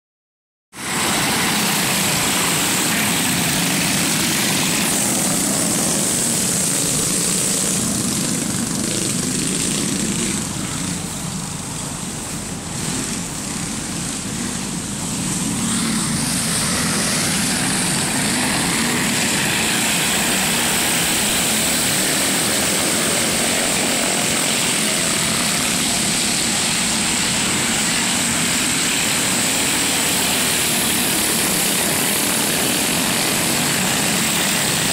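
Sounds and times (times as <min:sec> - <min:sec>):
go-kart engines buzzing: 0:00.8 - 0:34.9.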